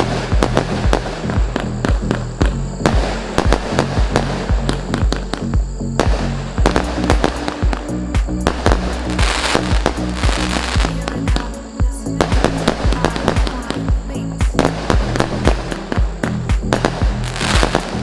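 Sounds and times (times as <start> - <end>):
background music with bass: 0.0 - 18.0.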